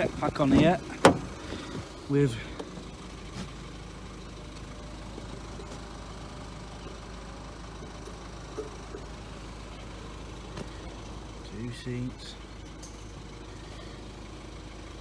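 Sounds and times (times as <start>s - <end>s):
diesel van engine idling: 0.0s - 15.0s.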